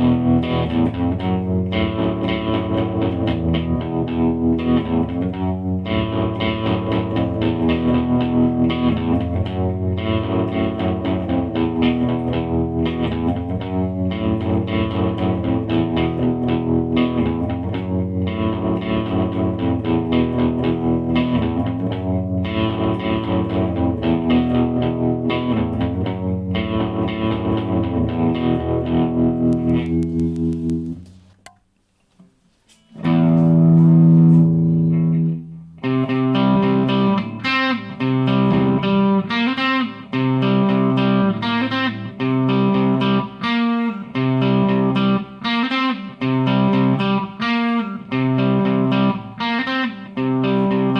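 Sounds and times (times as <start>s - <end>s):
overdriven electric guitar: 0.0s - 31.6s, 32.7s - 50.9s.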